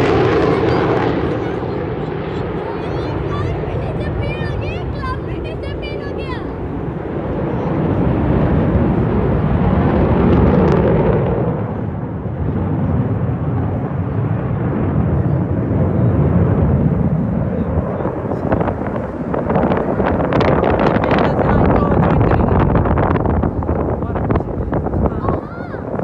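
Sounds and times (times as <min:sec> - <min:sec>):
jet aircraft flying past: 0:00.0 - 0:26.0.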